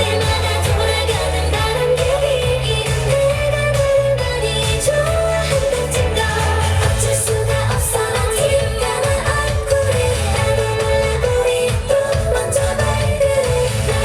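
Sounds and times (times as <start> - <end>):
pop song with female vocals: 0.0 - 14.0.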